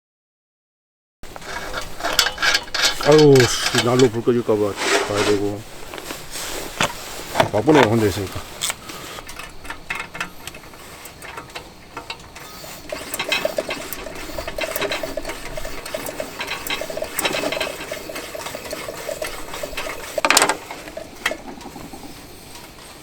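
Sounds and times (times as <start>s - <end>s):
squeaky pump strokes: 1.2s - 23.0s.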